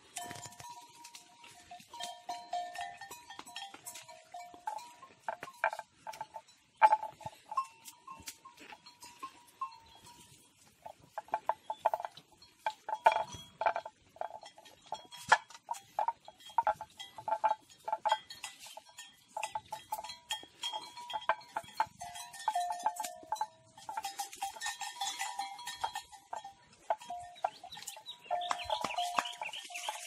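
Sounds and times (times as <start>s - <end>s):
animal bells clanking: 0.0s - 30.0s.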